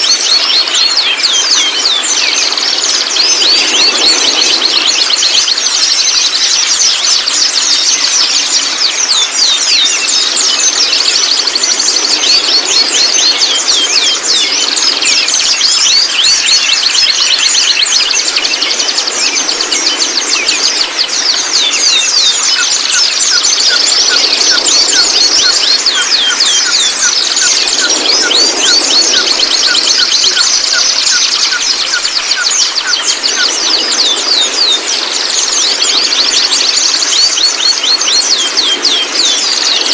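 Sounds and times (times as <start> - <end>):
young bird chirping rapidly: 0.0 - 39.9.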